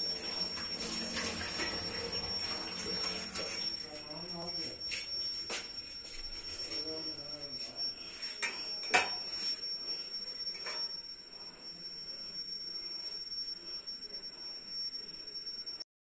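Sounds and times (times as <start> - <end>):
faint high-pitched whine: 0.0 - 15.8.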